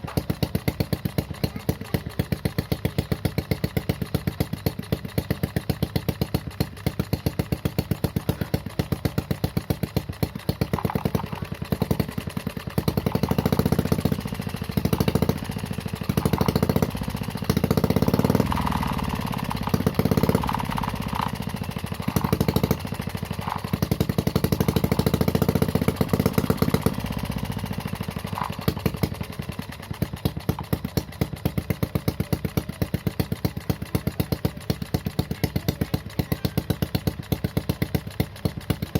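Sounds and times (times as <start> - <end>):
small engine idling and revving: 0.0 - 38.9.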